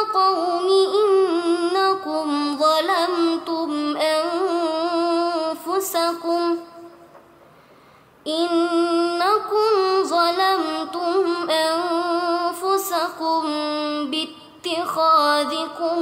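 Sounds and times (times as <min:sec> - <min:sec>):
woman chanting melodically: 0:00.0 - 0:07.0, 0:08.3 - 0:16.0.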